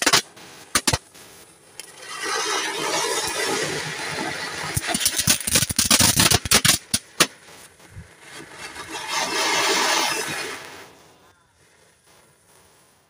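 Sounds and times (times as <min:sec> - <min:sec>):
firecrackers banging: 0:00.0 - 0:13.0
firework fountains hissing: 0:00.0 - 0:13.0.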